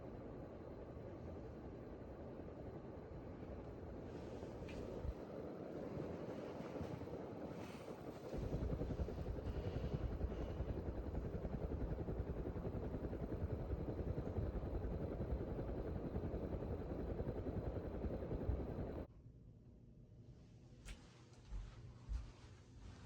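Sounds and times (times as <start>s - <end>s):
ceiling fan humming: 0.0s - 19.1s, 20.2s - 23.0s.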